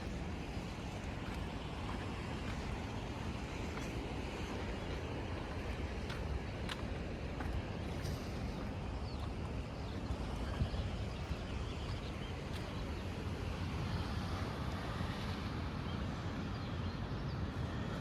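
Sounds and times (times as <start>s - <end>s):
ocean surf rumble: 0.0s - 18.0s
wind: 0.0s - 18.0s.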